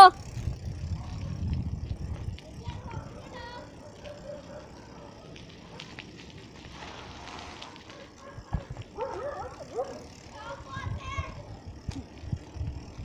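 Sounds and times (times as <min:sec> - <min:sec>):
wind and road noise: 0:00.0 - 0:13.0
bicycle tyre hiss: 0:00.2 - 0:13.0.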